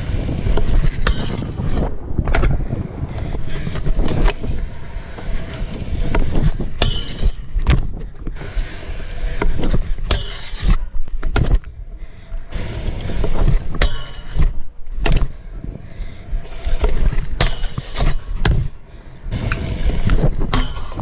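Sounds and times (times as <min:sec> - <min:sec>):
scooter wheels rolling on concrete: 0:00.0 - 0:14.5, 0:15.1 - 0:21.0.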